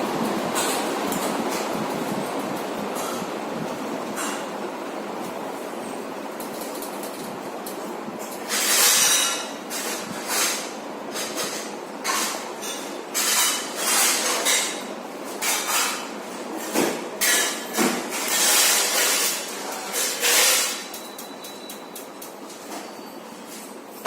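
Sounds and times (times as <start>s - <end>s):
fan hiss: 0.0s - 21.0s
fan rattling and clinking: 0.0s - 24.0s.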